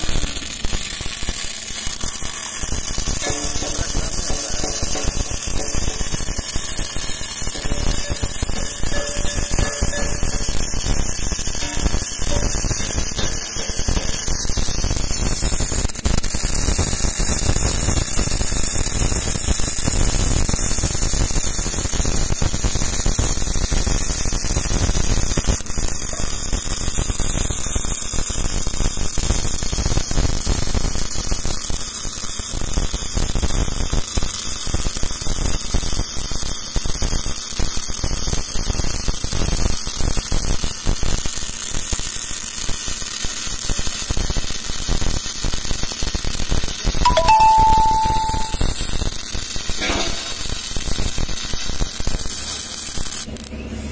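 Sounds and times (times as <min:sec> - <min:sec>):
welding arc crackling buzz: 0:00.0 - 0:53.5.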